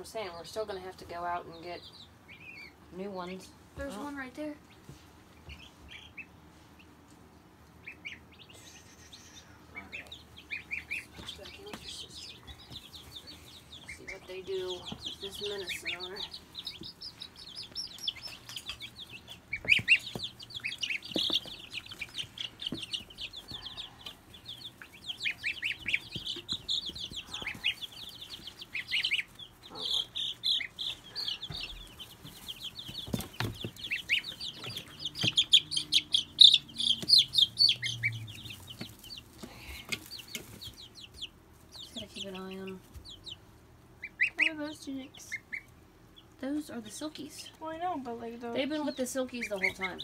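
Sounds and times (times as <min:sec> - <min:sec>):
baby chicks peeping: 0:00.0 - 0:50.0.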